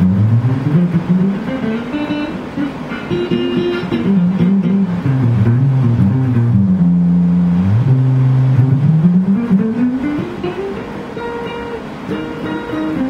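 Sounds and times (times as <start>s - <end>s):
guitar picked notes: 0.0s - 13.0s.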